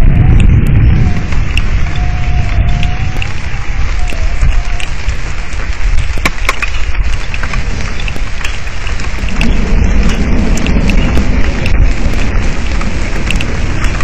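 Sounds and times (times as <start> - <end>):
constant deep rumble: 0.0 - 14.0
heavy rain drops clicking on microphone: 0.0 - 14.0
thunder rumble: 0.0 - 14.0.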